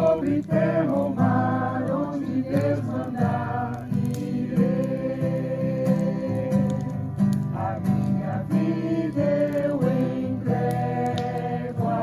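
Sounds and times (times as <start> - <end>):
acoustic guitar strumming: 0.0 - 12.0
group singing worship song: 0.0 - 12.0.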